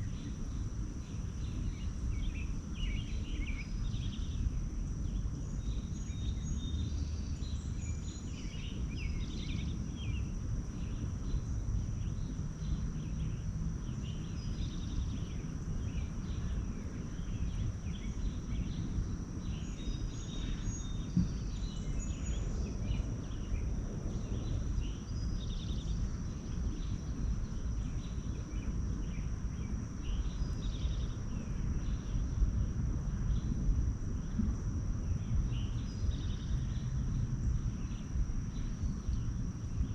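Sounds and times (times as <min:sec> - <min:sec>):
low outdoor rumble: 0:00.0 - 0:39.9.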